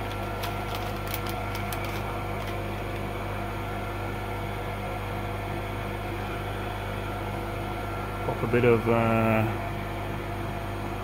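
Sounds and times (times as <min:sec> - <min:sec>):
extractor fan humming: 0:00.0 - 0:11.0.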